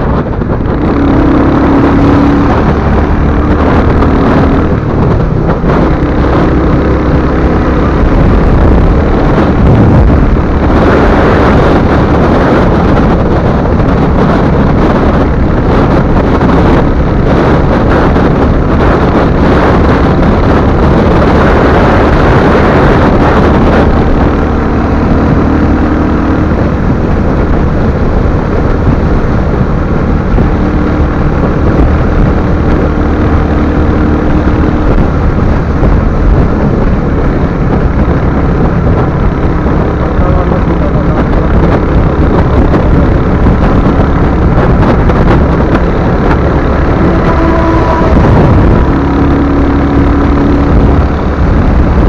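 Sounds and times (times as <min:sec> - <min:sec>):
motorcycle engine running: 0:00.0 - 0:52.0
wind rush on microphone: 0:00.0 - 0:52.0.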